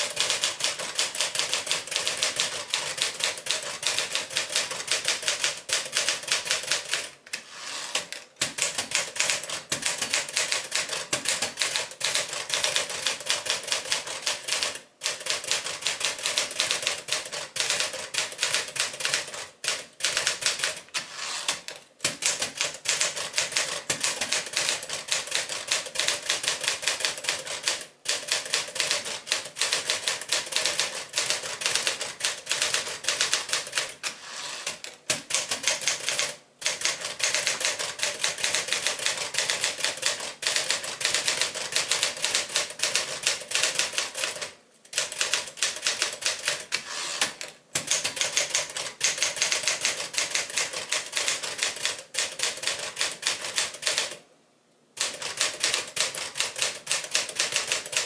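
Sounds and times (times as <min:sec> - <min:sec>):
manual typewriter clacking: 0:00.0 - 0:07.1, 0:07.9 - 0:54.2, 0:55.0 - 0:58.0.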